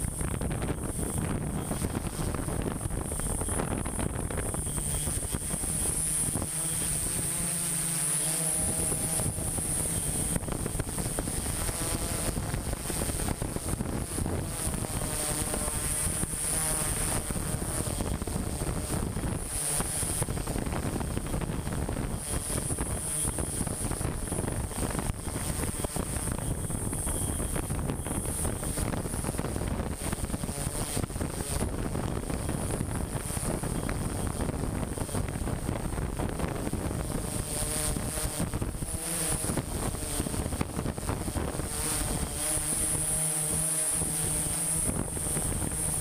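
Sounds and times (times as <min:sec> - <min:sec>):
drone propellers whirring: 0:00.0 - 0:46.0.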